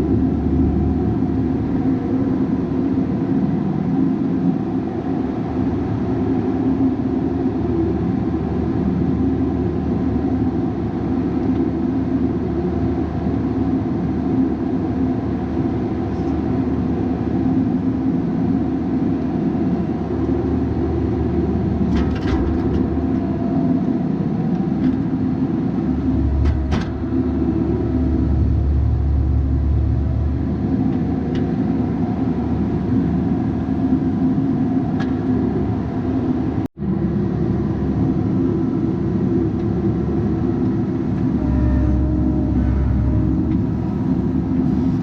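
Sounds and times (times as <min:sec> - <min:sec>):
diesel excavator engine running: 0:00.0 - 0:45.0.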